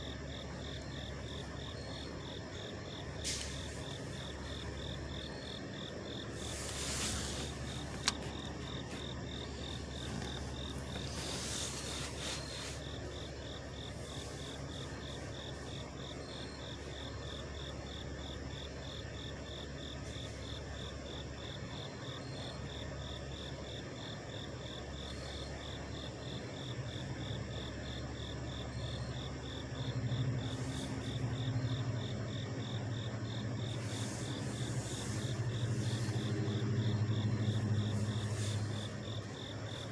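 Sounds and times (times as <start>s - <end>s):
night insects chirping: 0.0s - 39.9s
truck engines idling: 0.0s - 39.9s.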